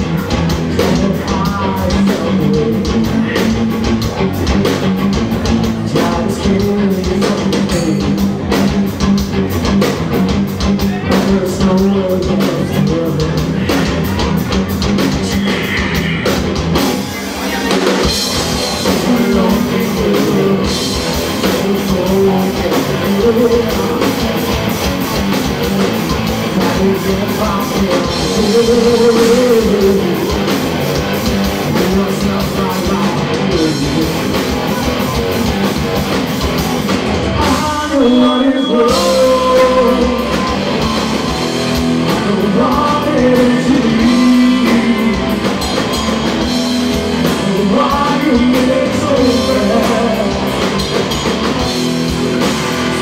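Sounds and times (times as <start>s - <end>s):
person singing: 0.0s - 4.7s, 5.4s - 8.6s, 10.6s - 16.6s, 17.4s - 24.7s, 25.4s - 35.5s, 37.2s - 46.5s, 47.2s - 51.7s
distorted electric guitars: 0.0s - 53.0s
drums: 0.0s - 53.0s.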